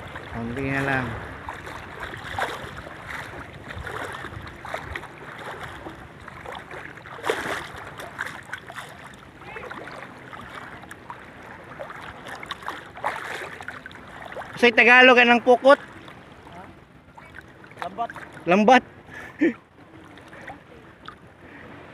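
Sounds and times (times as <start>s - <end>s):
small waves washing: 0.0s - 21.9s
splashing through shallow water: 0.0s - 21.9s.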